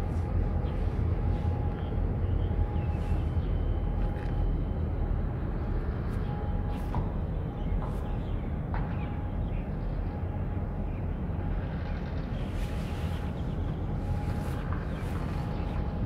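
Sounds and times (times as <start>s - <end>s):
low harbour rumble: 0.0s - 16.0s.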